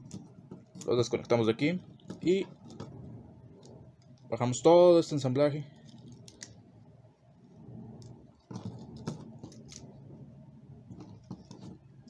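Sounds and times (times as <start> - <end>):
plastic toy parts clicking and rubbing: 0.0 - 4.8, 5.6 - 6.7, 7.3 - 12.0.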